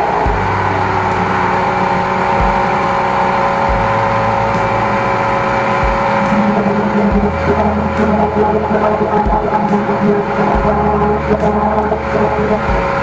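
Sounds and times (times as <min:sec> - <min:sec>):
jetter engine and pump droning: 0:00.0 - 0:13.0.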